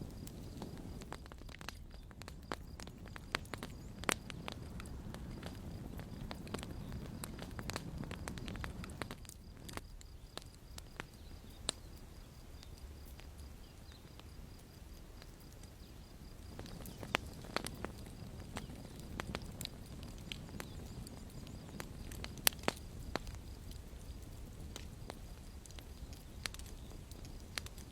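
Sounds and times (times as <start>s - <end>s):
low rumble of flames: 0.0s - 27.9s
sharp fire pops: 0.0s - 27.9s
wood crackling: 0.0s - 27.9s.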